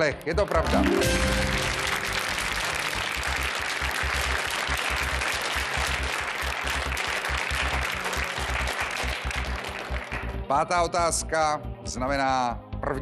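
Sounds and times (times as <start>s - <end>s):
audience applauding: 0.0s - 10.5s
game show music with pulsing beat: 0.0s - 13.0s.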